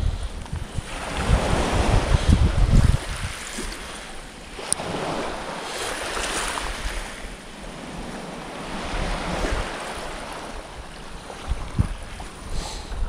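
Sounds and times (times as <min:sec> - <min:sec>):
small waves washing at shore: 0:00.0 - 0:13.0
wind rumbling on microphone: 0:00.0 - 0:13.0.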